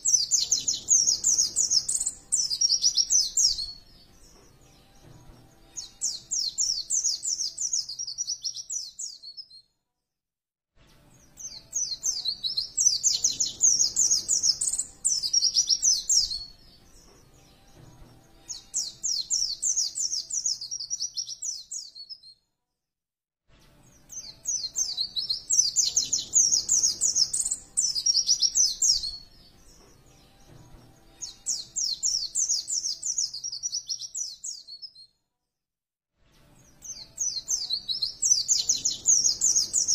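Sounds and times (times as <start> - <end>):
songbird twittering chirps: 0.0 - 9.6, 11.2 - 22.4, 23.9 - 35.1, 36.6 - 39.9.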